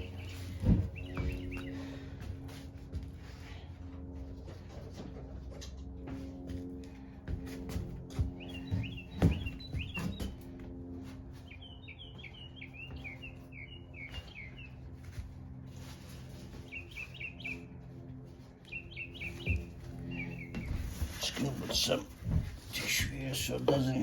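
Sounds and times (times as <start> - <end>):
low background music hum: 0.0 - 24.0.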